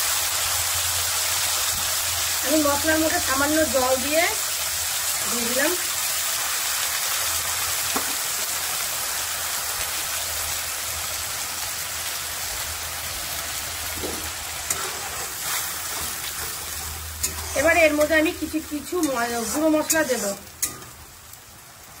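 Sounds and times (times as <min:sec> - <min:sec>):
spice paste sizzling in oil: 0:00.0 - 0:22.0.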